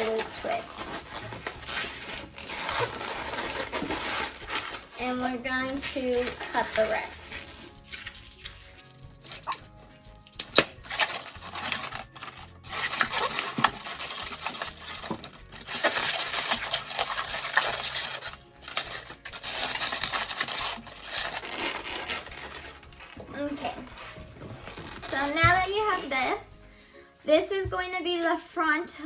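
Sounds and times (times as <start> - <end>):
balloons rubbing and squeaking: 0.0 - 9.9, 10.5 - 26.5.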